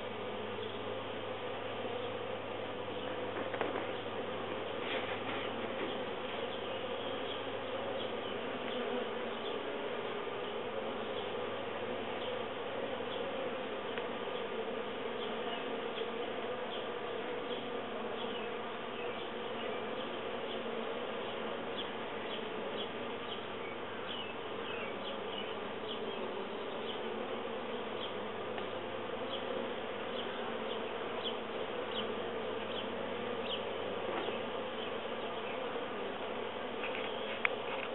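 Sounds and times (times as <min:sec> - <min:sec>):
honeybees buzzing: 0:00.0 - 0:37.9.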